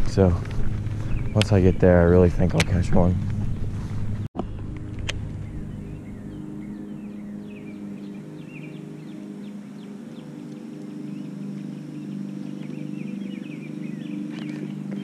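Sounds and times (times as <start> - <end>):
steady low hum: 0.0 - 15.0
small birds chirping: 0.1 - 3.1, 4.4 - 15.0.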